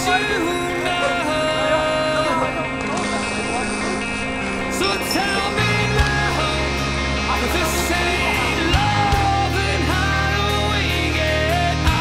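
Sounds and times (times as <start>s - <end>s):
rock song with singing: 0.0s - 12.0s.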